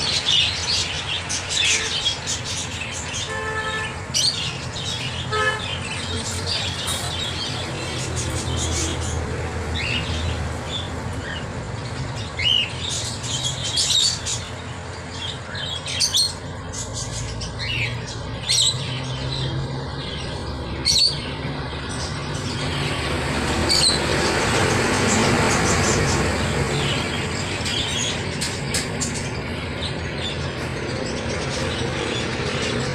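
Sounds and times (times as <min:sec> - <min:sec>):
parrots chirping and squawking: 0:00.0 - 0:32.9.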